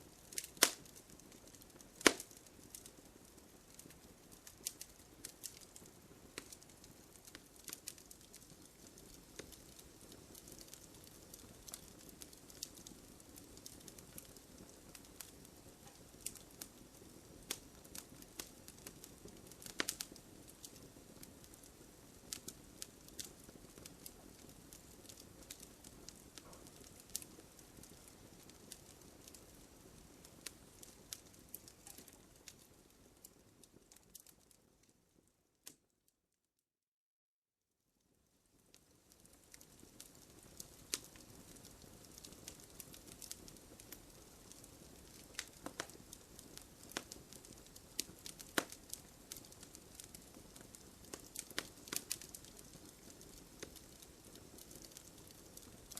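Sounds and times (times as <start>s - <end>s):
wood fire crackling and popping: 0.0s - 35.8s, 38.3s - 55.9s.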